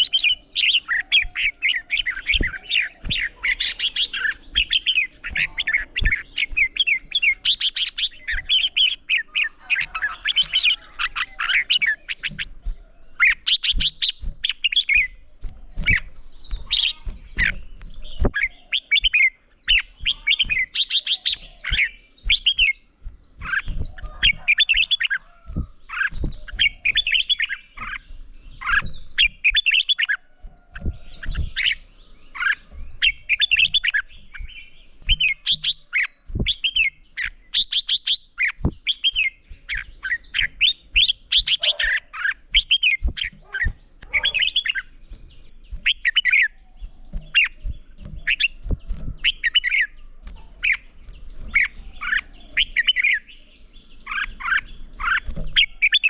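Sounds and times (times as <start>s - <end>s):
bulbul singing warbled phrases: 0.0s - 56.0s.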